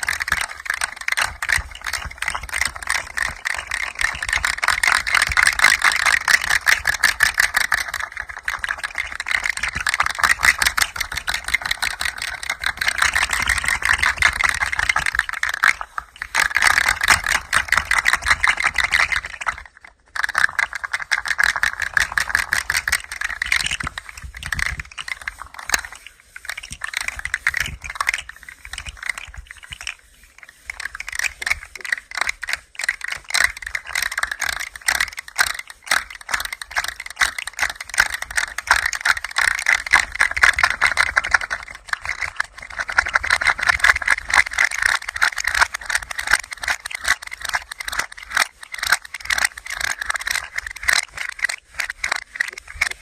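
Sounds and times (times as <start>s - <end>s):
rattle toy clattering: 0.0s - 53.0s.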